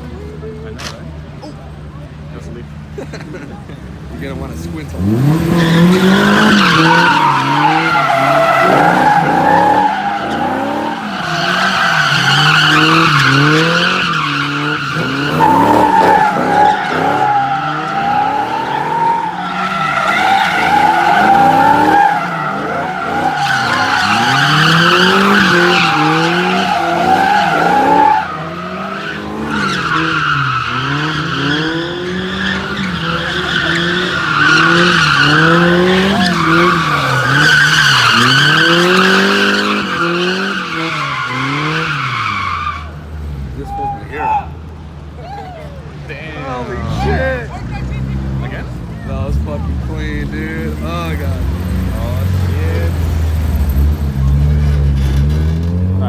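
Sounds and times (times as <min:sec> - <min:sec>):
car engine revving: 0:02.0 - 0:44.2, 0:45.9 - 0:56.0
tyres squealing: 0:05.0 - 0:55.7.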